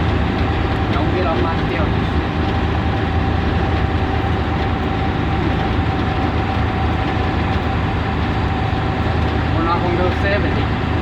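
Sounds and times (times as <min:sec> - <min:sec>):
bus engine drone: 0:00.0 - 0:11.0
road rumble: 0:00.0 - 0:11.0.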